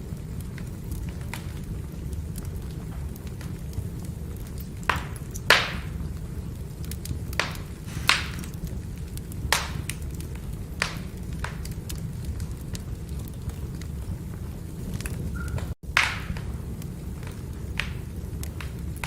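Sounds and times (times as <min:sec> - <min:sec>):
burning wood crackling pops: 0:00.0 - 0:19.0
fire low rumble: 0:00.0 - 0:19.0.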